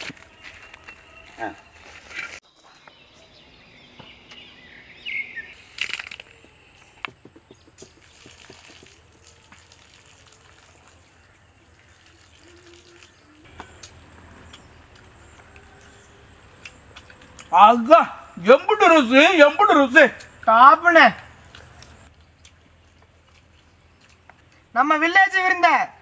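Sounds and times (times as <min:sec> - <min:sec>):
quiet outdoor ambience: 0:00.0 - 0:26.0.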